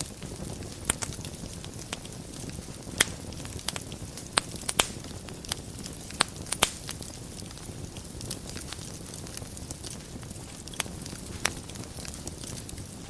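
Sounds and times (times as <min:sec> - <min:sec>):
fire crackling and popping: 0:00.0 - 0:13.0
low rush of flame: 0:00.0 - 0:13.0.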